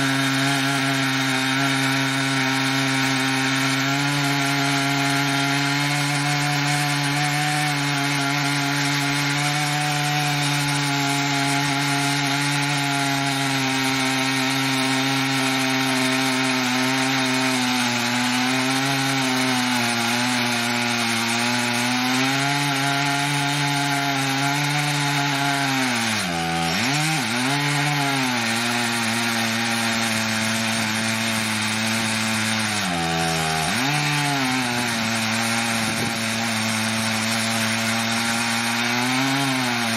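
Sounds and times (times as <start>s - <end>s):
chainsaw ripping through log: 0.0s - 39.9s.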